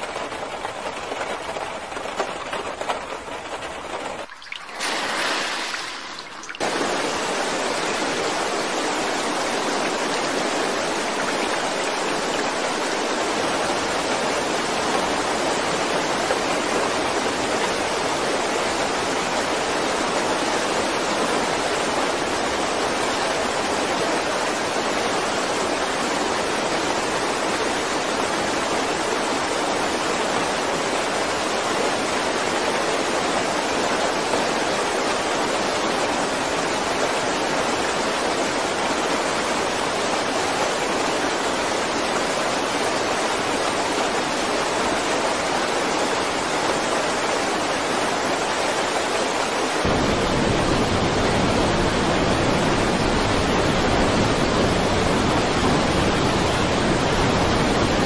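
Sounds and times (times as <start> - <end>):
rushing floodwater: 0.0 - 58.0.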